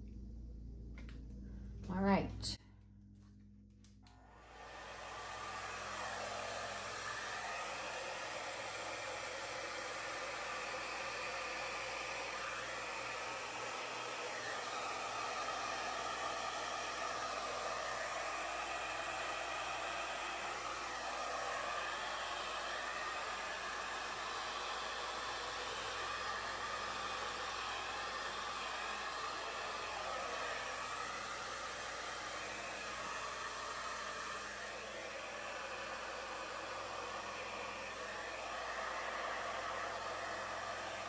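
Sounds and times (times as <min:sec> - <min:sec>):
hair dryer running: 0:03.7 - 0:41.0.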